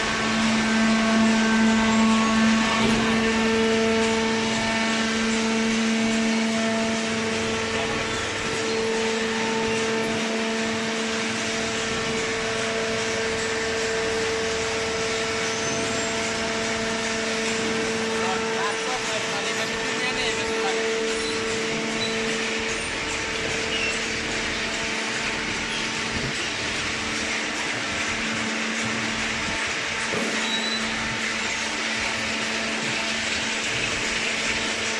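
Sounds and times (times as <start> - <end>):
machine humming: 0.0 - 34.9.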